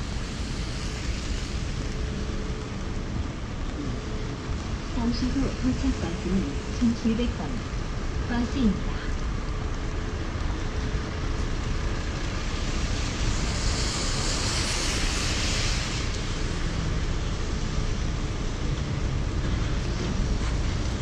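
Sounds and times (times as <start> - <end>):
city traffic rumble: 0.0 - 21.0
tyres hissing on wet road: 0.0 - 21.0.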